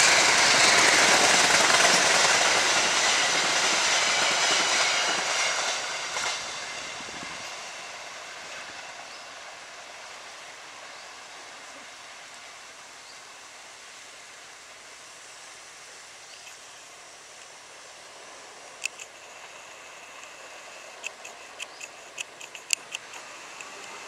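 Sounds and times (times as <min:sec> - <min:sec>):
train rolling along track: 0:00.0 - 0:24.0.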